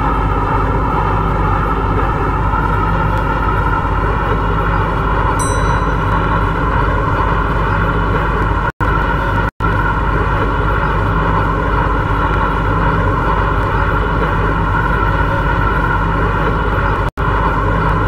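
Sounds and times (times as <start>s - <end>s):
electric train running at speed: 0.0s - 18.0s.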